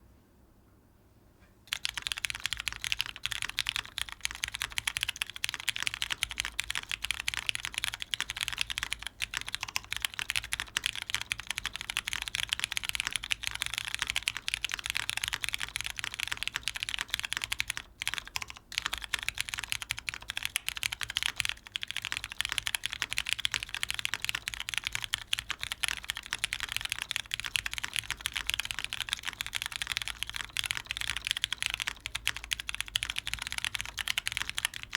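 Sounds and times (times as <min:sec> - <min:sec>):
fast typing on mechanical keyboard: 0:01.7 - 0:34.9.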